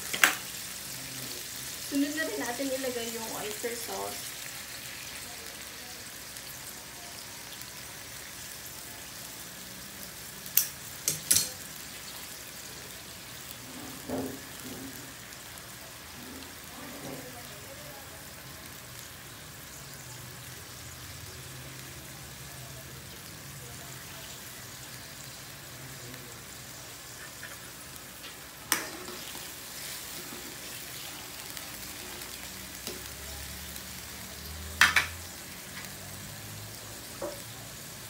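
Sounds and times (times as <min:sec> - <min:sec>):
sauce boiling and sizzling in a wok: 0:00.0 - 0:38.0.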